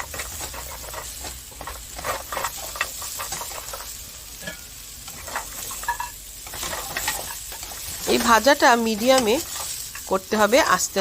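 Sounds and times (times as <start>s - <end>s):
spatula scraping a pan: 0.0s - 10.2s
oil sizzling in a frying pan: 0.0s - 11.0s.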